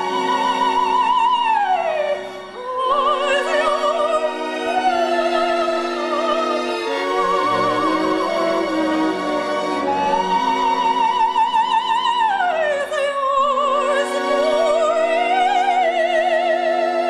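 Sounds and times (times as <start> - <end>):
operatic soprano singing: 0.0 - 17.0.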